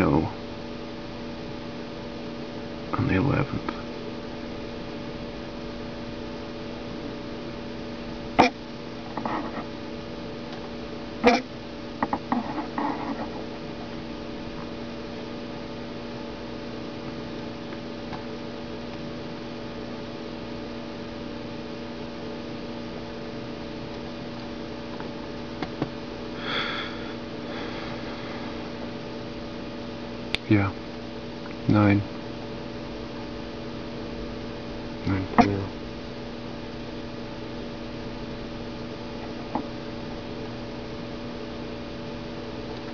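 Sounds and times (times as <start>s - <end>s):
electrical mains hum: 0.0s - 42.9s.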